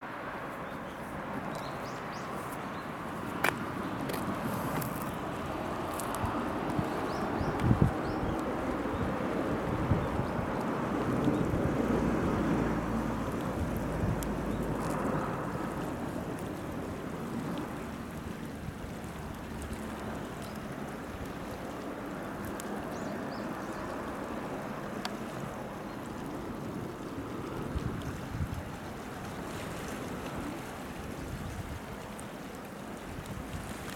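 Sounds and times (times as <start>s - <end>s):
lapping seawater: 0.0s - 33.9s
sea washing at shore: 0.0s - 33.9s
wind blowing across microphone: 0.6s - 33.9s.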